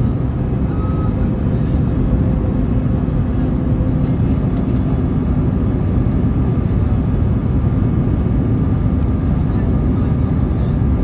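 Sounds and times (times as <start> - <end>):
jet engines rumbling with whine: 0.0 - 11.0.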